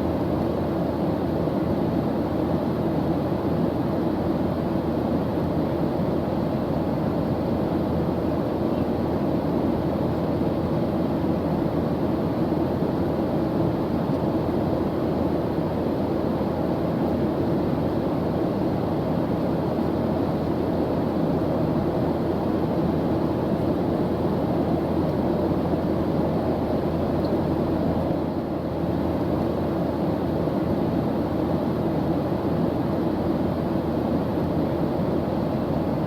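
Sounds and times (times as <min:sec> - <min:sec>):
airplane engine drone: 0:00.0 - 0:36.0.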